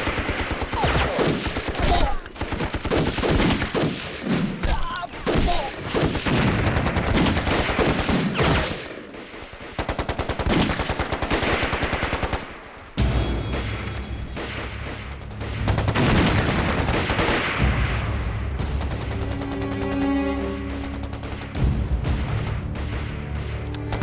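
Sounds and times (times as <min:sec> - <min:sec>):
rapid gunfire from many guns: 0:00.0 - 0:19.8, 0:20.8 - 0:24.0.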